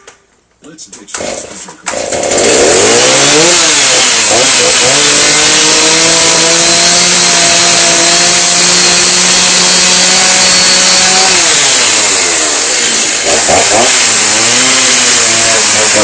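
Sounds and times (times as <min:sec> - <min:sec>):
power saw motor spinning: 0:01.2 - 0:16.0.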